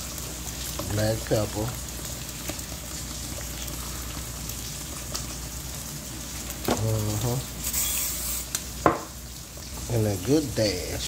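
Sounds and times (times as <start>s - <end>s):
eggs sizzling on griddle: 0.0s - 11.0s.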